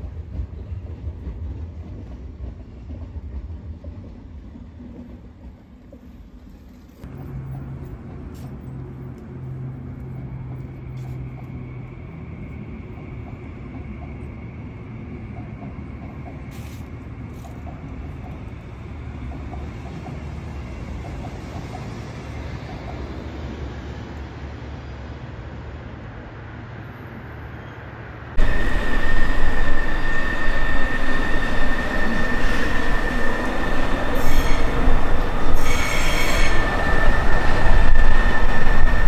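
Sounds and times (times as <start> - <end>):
train wheels rumbling on rail: 0.0 - 27.8, 28.4 - 39.0.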